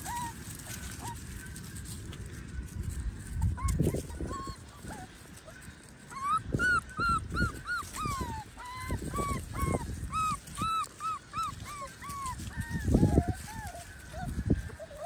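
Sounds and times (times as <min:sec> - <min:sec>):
puppies yipping and whimpering: 0:00.0 - 0:15.0.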